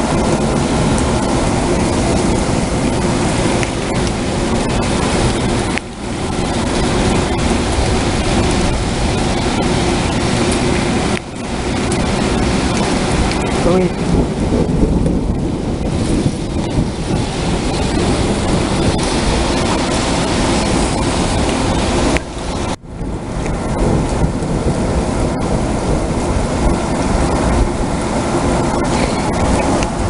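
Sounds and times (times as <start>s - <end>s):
heavy rain with low rumble: 0.0s - 30.0s.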